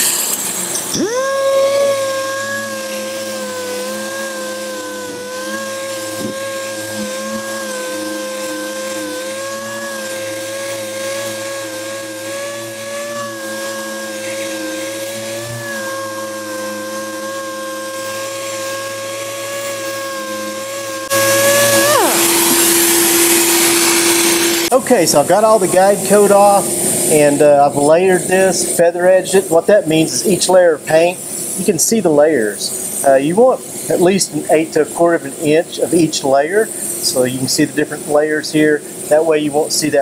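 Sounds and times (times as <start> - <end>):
orbital sander whine: 0.0 - 40.0.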